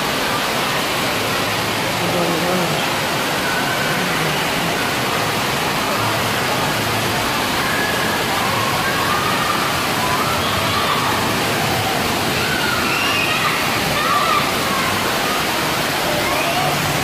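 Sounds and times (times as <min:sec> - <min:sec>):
faint distant voices: 0:00.0 - 0:17.0
running and splashing water: 0:00.0 - 0:17.0.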